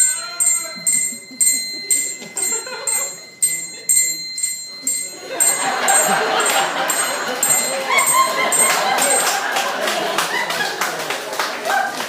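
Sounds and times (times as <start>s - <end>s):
hand bell ringing: 0.0s - 10.2s.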